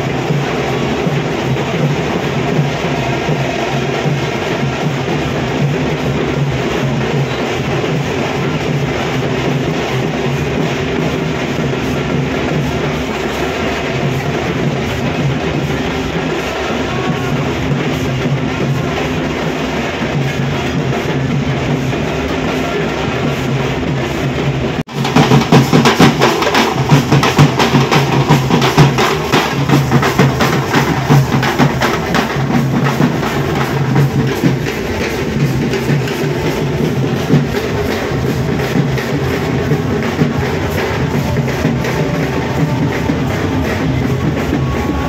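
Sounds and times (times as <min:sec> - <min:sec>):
drummers beating drums: 0:00.0 - 0:45.0.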